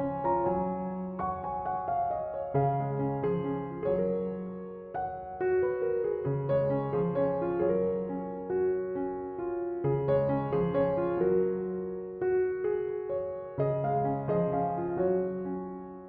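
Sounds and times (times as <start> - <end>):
gentle piano piece: 0.0 - 16.0.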